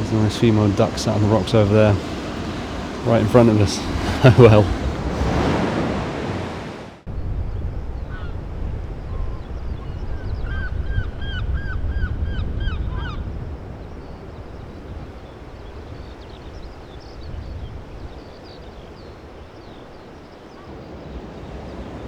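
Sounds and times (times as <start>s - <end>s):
waves washing ashore: 0.0s - 22.0s
wind on microphone: 0.0s - 22.0s.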